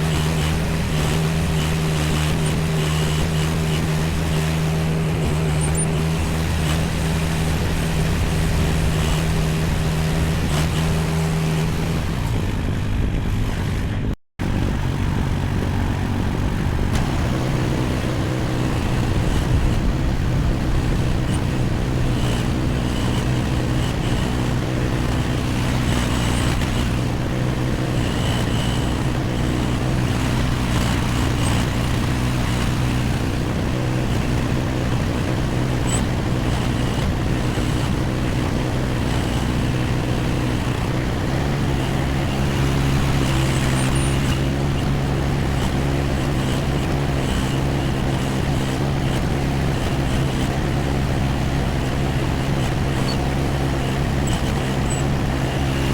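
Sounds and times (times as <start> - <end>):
excavator engine running: 0.0 - 55.9.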